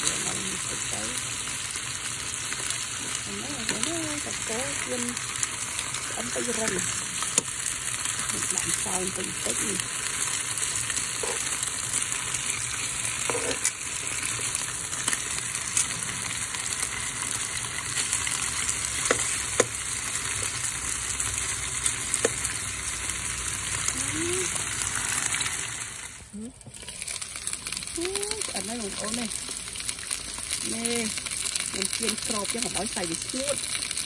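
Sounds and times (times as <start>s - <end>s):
meat sizzling in oil: 0.0s - 34.0s.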